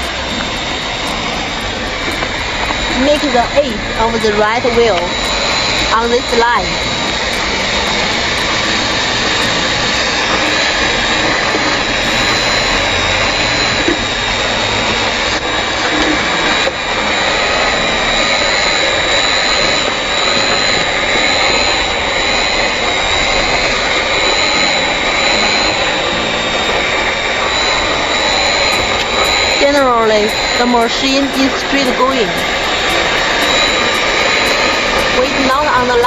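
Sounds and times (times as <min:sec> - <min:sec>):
high wavering whine: 0:00.0 - 0:36.0
hot air welder blowing: 0:00.0 - 0:36.0.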